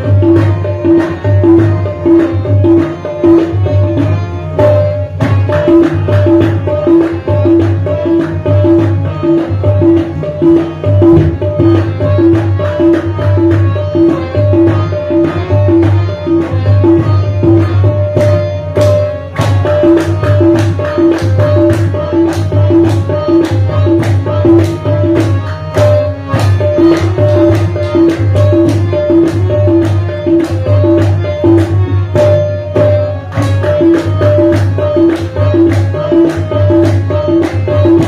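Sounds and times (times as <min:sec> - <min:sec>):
harmonium melody: 0:00.0 - 0:38.0
tabla rhythm: 0:00.0 - 0:38.0.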